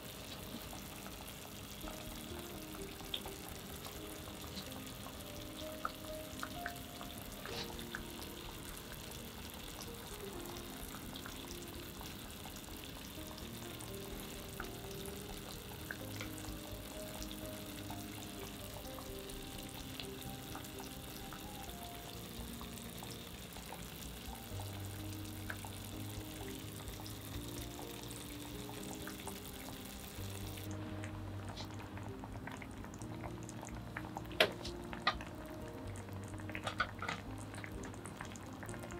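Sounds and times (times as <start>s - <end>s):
broth simmering with sizzle: 0.0s - 38.9s
soft background music: 0.0s - 38.9s.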